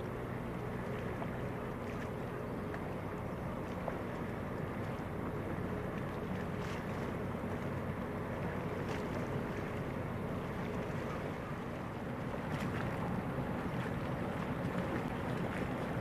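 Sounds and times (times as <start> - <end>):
ship diesel engines droning: 0.0 - 16.0.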